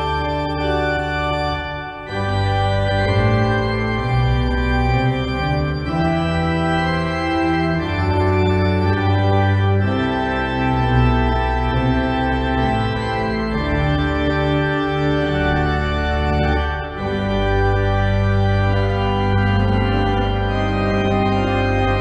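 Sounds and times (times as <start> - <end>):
organ chords: 0.0 - 22.0.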